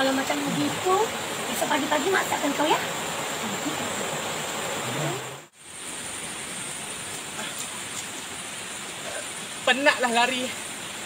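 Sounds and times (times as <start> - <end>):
rain-like background hiss: 0.0 - 11.0.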